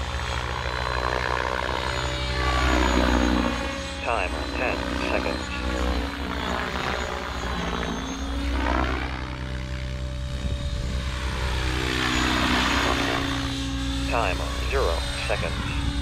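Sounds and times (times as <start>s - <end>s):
model helicopter motor and rotor whine: 0.0s - 16.0s.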